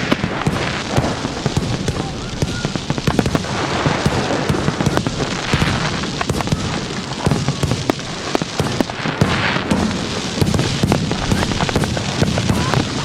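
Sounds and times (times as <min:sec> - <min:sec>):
fireworks bangs and pops: 0:00.0 - 0:13.0
fireworks crackling: 0:00.0 - 0:13.0.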